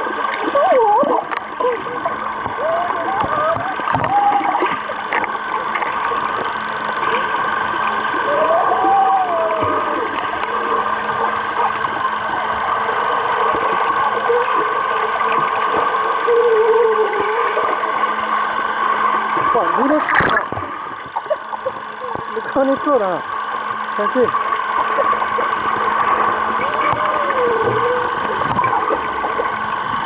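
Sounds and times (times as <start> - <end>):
bubbling: 0.0 - 30.0
muffled underwater hiss and hum: 0.0 - 30.0
muffled voices through water: 0.0 - 30.0.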